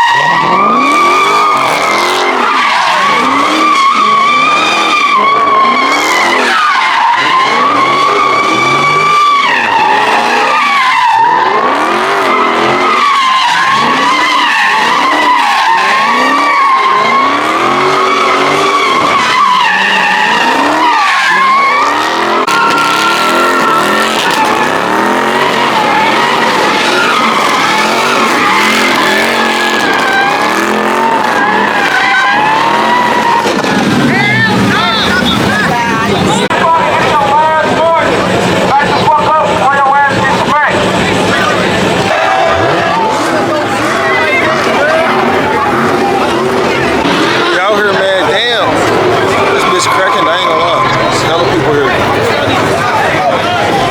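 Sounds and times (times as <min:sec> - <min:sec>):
car engine revving: 0:00.0 - 0:53.9
tires squealing: 0:00.0 - 0:53.9.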